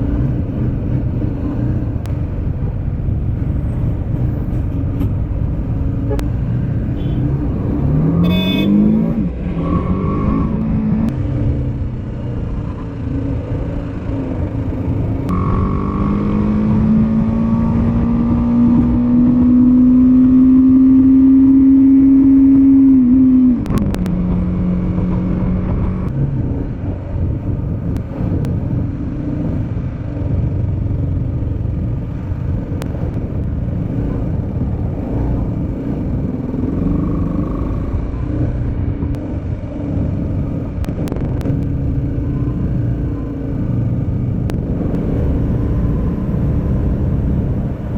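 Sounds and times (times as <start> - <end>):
road rumble: 0.0 - 47.9.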